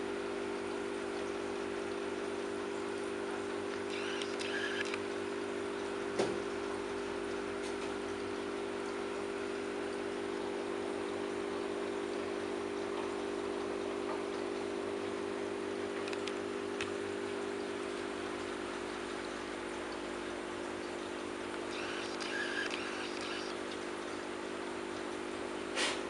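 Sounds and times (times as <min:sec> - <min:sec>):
steady electrical hum: 0:00.6 - 0:26.0.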